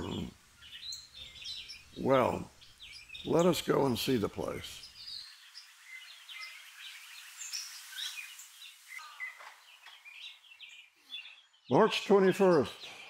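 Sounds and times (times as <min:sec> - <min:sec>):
faint even hiss: 0:00.0 - 0:11.3
songbirds chirping: 0:00.0 - 0:13.0.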